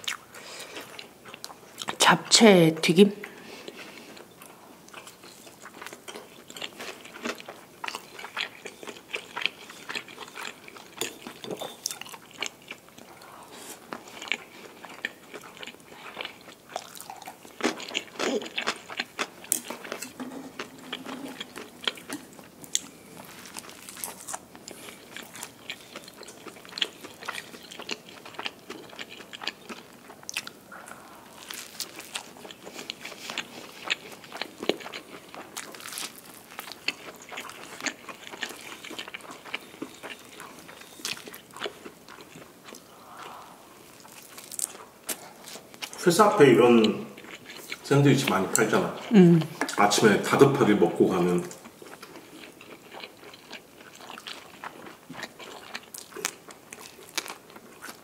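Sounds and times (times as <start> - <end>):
crunchy chewing: 3.6 - 49.8, 51.4 - 58.0.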